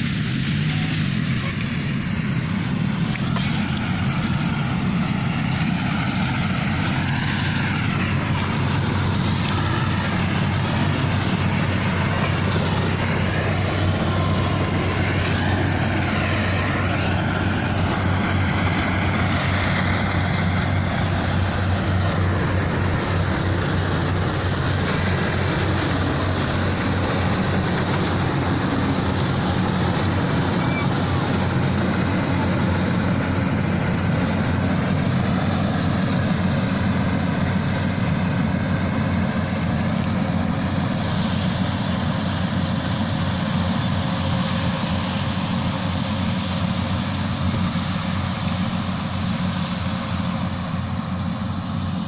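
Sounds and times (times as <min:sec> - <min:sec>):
combine harvester engine drone: 0:00.0 - 0:52.0.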